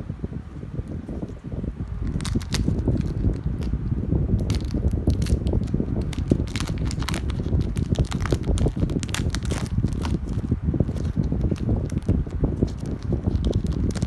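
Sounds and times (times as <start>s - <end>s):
steady low rumble: 0.0s - 14.0s
foil wrapper crinkling and tearing: 2.0s - 3.8s, 4.4s - 14.0s.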